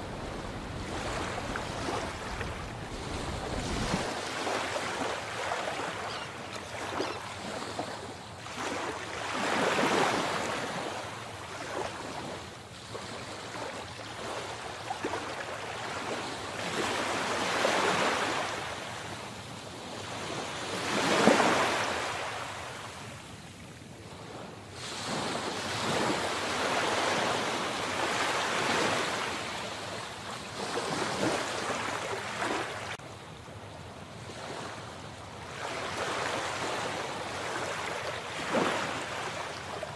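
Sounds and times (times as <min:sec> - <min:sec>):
sea waves breaking on shore: 0:00.0 - 0:23.4, 0:24.0 - 0:39.9.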